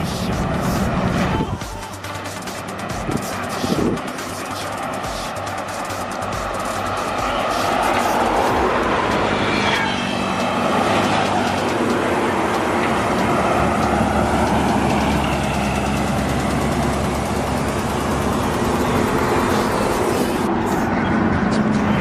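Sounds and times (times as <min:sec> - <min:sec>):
coach driving past: 0:00.0 - 0:22.0
heavy truck road noise: 0:00.0 - 0:22.0.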